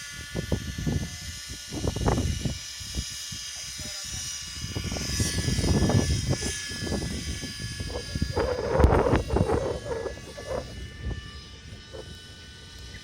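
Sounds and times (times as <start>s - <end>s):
wind buffeting microphone: 0.0s - 3.5s, 4.1s - 13.0s
model helicopter rotor whine: 0.0s - 13.0s.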